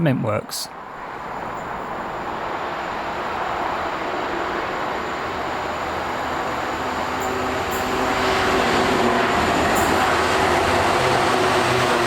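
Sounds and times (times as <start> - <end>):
diesel freight locomotive approaching: 0.7 - 12.0.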